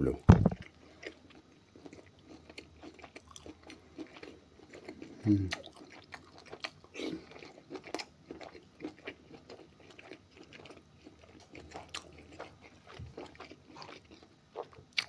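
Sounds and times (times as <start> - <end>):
man chewing food: 0.3 - 15.0.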